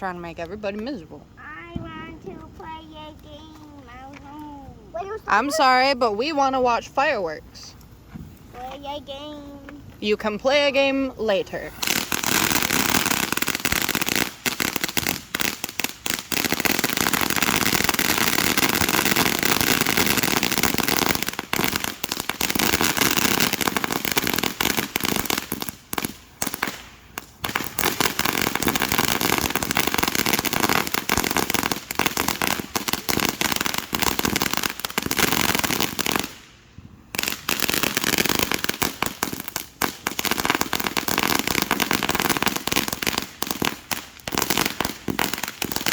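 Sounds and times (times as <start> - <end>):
fireworks popping and banging: 0.0 - 6.7, 11.6 - 45.9.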